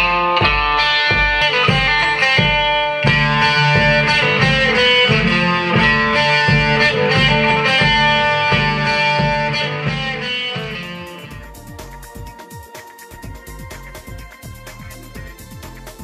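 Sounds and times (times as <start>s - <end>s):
guitar-led music with pulsing bass: 0.0s - 16.0s.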